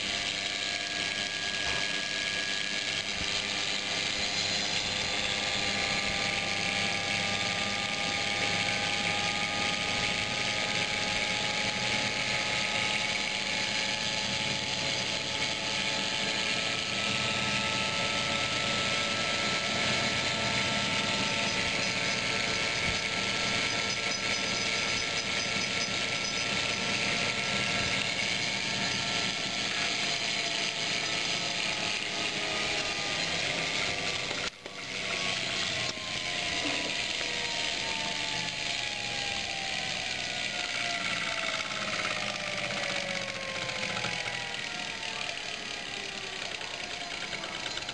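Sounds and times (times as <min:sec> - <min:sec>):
generator whirring and whining: 0:00.0 - 0:47.9.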